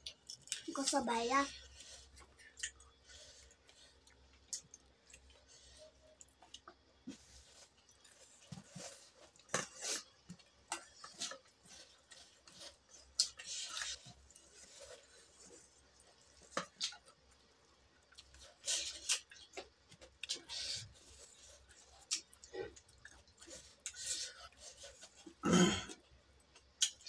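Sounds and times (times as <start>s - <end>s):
person chewing food: 0.0s - 0.8s, 1.5s - 27.0s.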